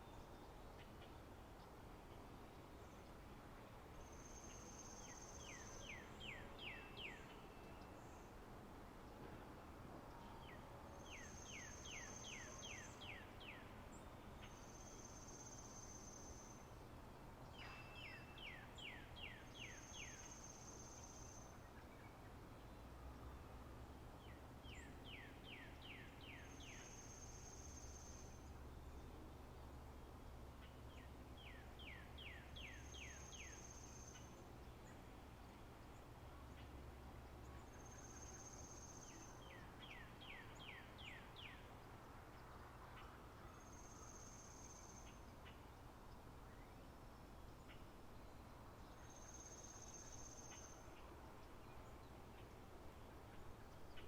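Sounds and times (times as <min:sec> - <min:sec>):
bird song: 0:00.0 - 0:54.0
soft background hiss: 0:00.0 - 0:54.0.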